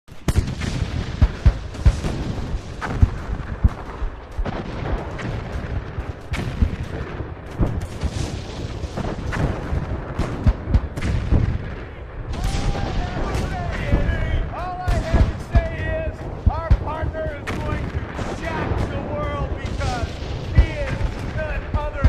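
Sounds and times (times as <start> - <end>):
low rumble of distant firing: 0.1 - 22.0
shell bursts: 0.1 - 22.0
heavy gun booms: 0.2 - 22.0.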